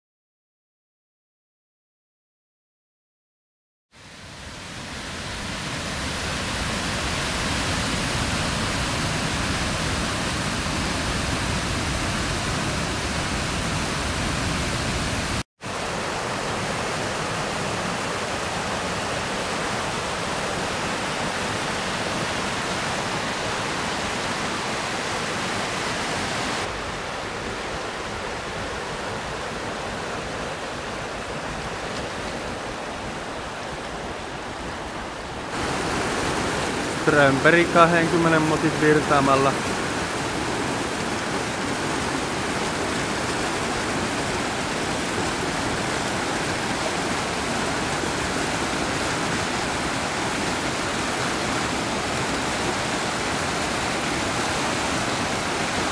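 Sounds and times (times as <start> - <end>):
river rushing: 4.0 - 55.9.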